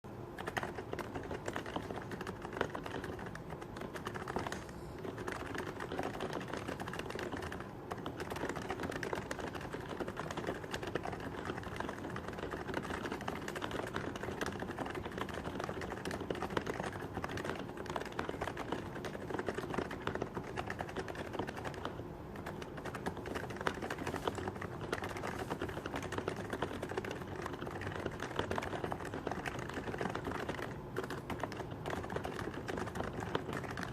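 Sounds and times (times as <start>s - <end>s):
keyboard typing: 0.1s - 33.9s.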